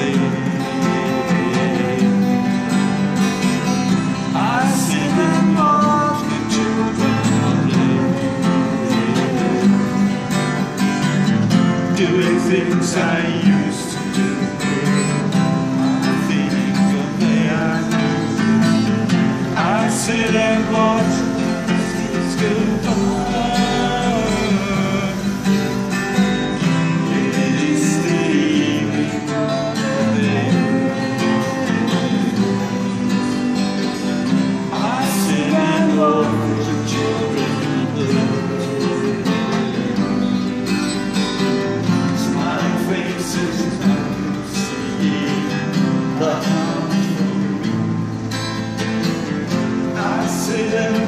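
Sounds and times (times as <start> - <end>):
man singing: 0.0 - 48.1, 49.4 - 51.0
acoustic guitars strummed: 0.0 - 51.0.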